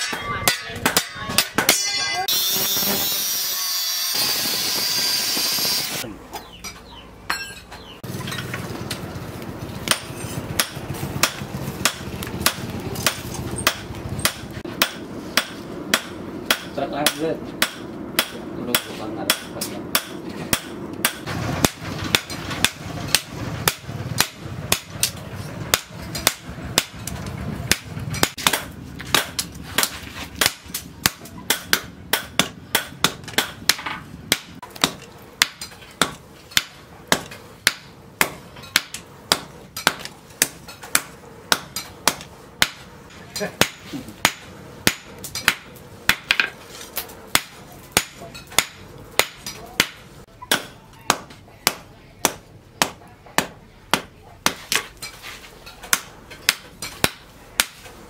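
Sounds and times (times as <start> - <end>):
hammer striking hot steel on anvil: 0.0 - 9.0, 9.8 - 58.0.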